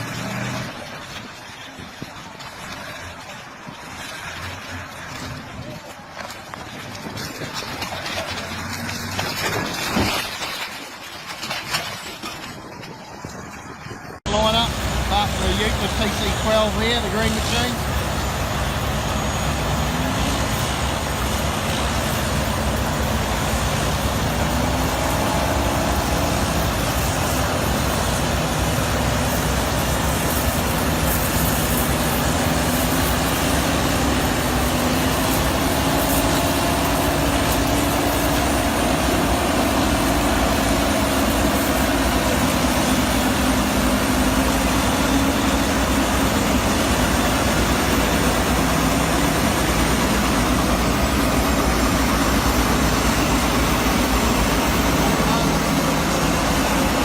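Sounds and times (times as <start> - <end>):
dense mechanical noise: 0.0 - 57.0
diesel engines running: 0.0 - 57.0.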